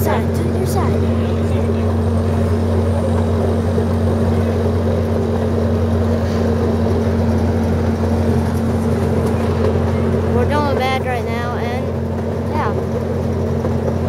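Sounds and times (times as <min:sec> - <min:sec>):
ride-on train engine rumbling: 0:00.0 - 0:14.0.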